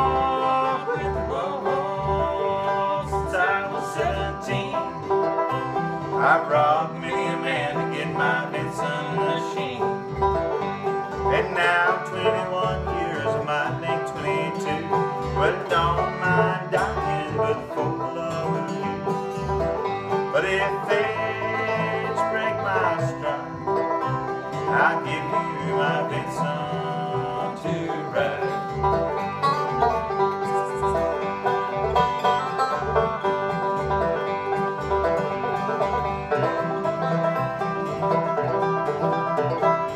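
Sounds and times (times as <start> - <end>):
banjo picking: 0.0 - 39.9
strummed acoustic guitar: 0.0 - 39.9
upright bass plucking: 0.0 - 39.9.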